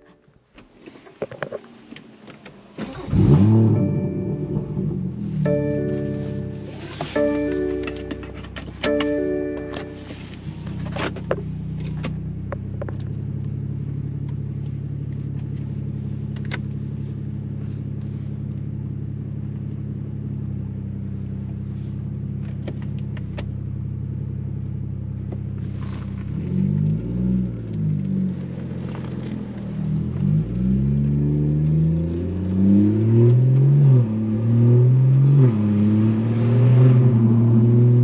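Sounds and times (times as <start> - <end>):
car engine drone: 0.0 - 38.0.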